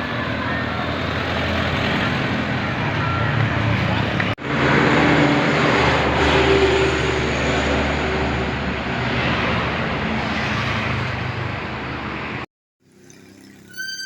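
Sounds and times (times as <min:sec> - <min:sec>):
heavy vehicle engine drone: 0:00.0 - 0:12.5.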